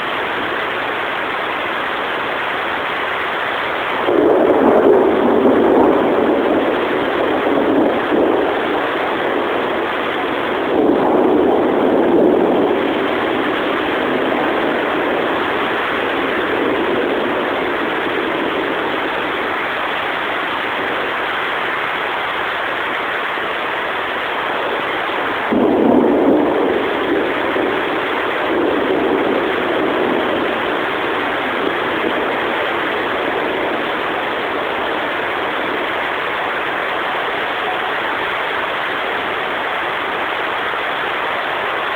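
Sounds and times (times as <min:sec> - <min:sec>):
heavy rain: 0:00.0 - 0:41.9
thunder rumbling: 0:00.0 - 0:41.9.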